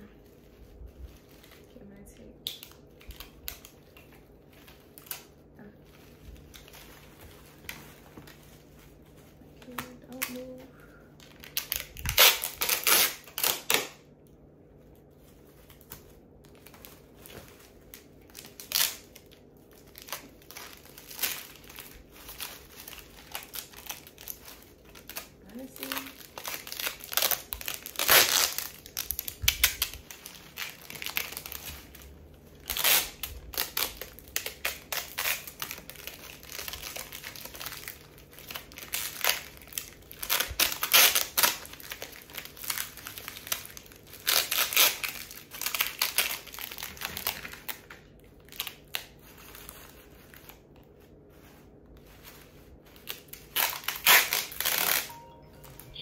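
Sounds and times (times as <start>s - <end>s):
artificial flower stems rustling: 0.0s - 14.0s, 14.7s - 56.0s.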